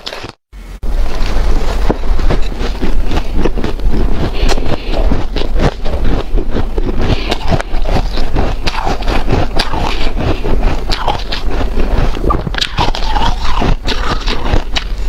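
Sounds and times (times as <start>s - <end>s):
chewing crunchy ice: 0.0s - 15.0s.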